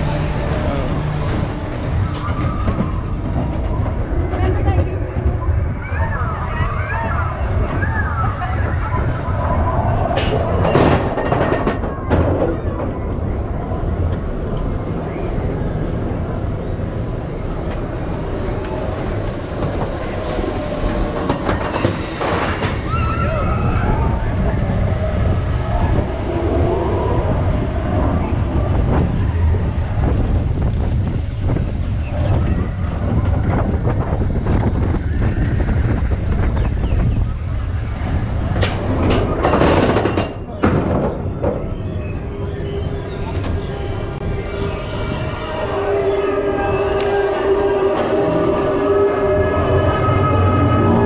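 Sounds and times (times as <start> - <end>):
roller coaster rumbling on track: 0.0 - 51.0
wind buffeting microphone: 0.0 - 51.0.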